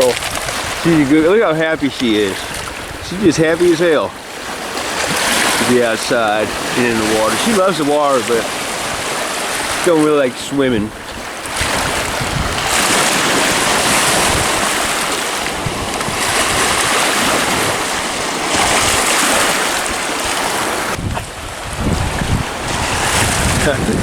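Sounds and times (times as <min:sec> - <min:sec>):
waves washing onto shore: 0:00.0 - 0:24.0
wind buffeting microphone: 0:00.0 - 0:24.0.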